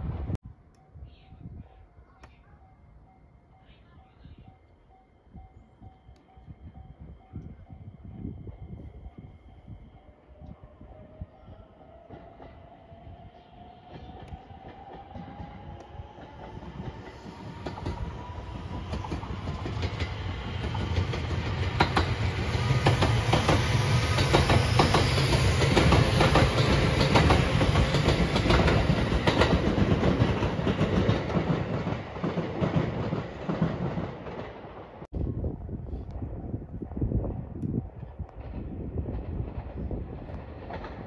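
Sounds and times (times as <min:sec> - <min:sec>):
electric train rumble: 0:02.8 - 0:41.0.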